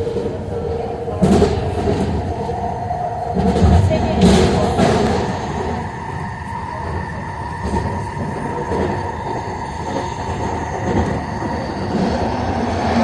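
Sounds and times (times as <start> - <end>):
constant hum: 0.0 - 13.0
train running on track: 0.0 - 13.0.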